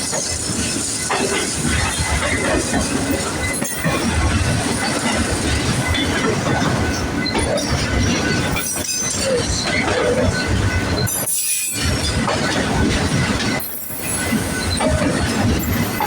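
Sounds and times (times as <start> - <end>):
freight cars rumbling on rails: 0.0 - 16.0.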